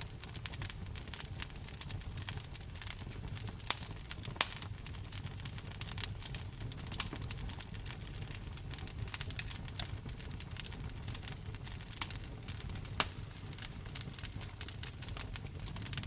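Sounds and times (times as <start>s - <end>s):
loud fire pops: 0.0s - 16.0s
wood fire crackling: 0.0s - 16.0s.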